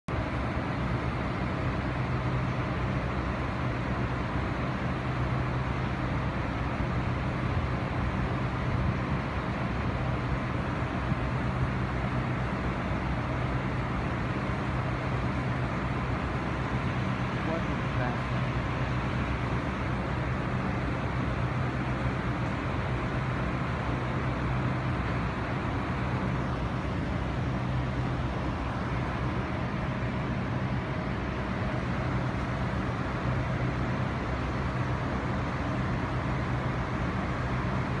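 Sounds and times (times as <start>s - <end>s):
urban background hum: 0.0s - 38.0s.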